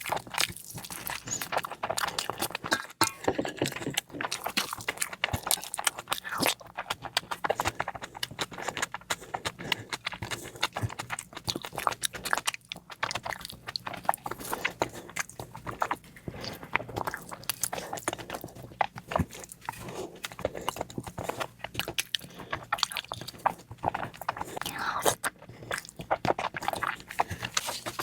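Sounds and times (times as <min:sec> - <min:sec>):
person chewing and biting food: 0:00.0 - 0:28.0.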